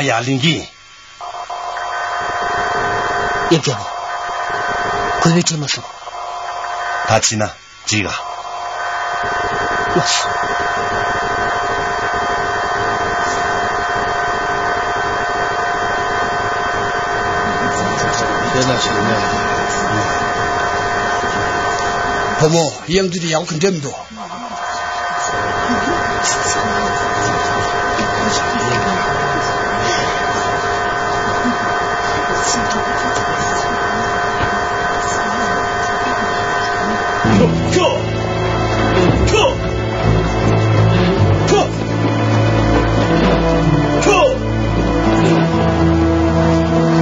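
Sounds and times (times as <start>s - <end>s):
steady hum and hiss: 0.0s - 47.0s.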